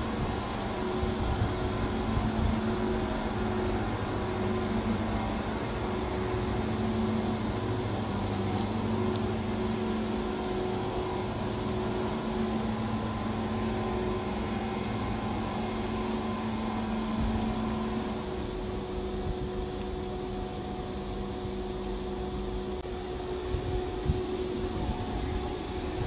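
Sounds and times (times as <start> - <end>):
electric air blower motor hum: 0.0 - 26.0.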